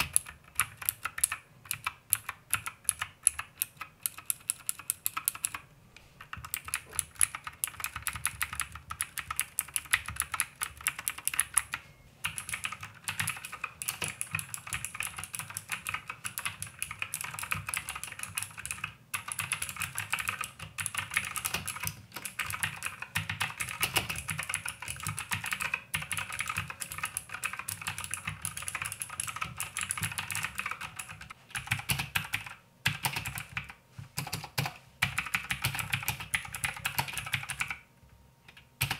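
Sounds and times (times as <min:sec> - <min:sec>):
fast mechanical keyboard typing: 0:00.0 - 0:05.6, 0:06.2 - 0:37.8.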